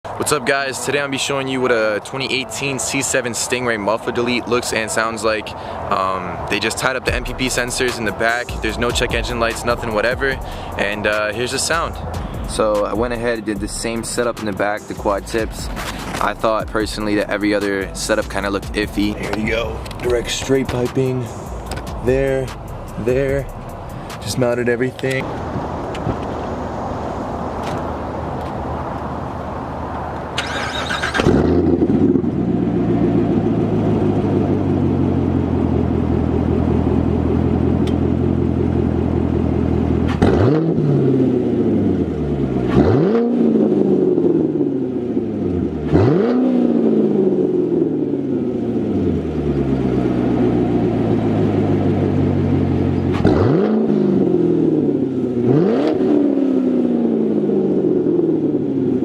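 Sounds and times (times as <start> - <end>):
car engine idling and revving: 0.1 - 59.0.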